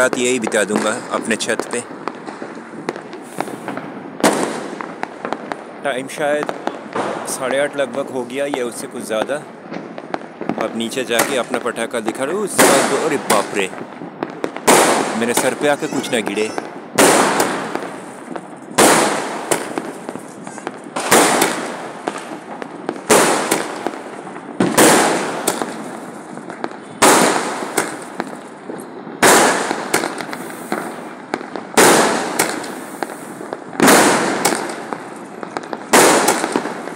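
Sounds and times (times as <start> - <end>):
firework shells bursting: 0.0 - 5.6, 12.5 - 36.9
firework crackling: 0.0 - 36.9.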